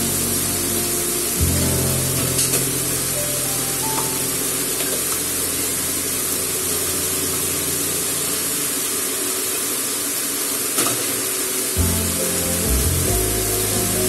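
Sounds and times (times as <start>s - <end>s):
meat and onions sizzling in a wok: 0.0s - 14.0s.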